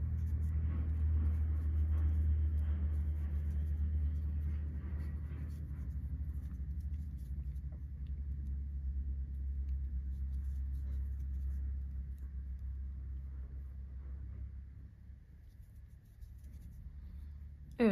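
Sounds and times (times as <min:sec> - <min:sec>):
crochet hook rustling and ticking: 0:00.0 - 0:17.9
steady low hum: 0:00.0 - 0:17.9.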